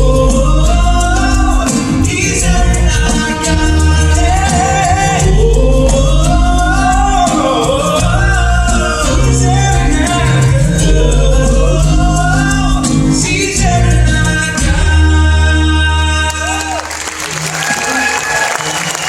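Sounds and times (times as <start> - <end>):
bass notes: 0.0 - 16.8
person singing: 0.0 - 17.0.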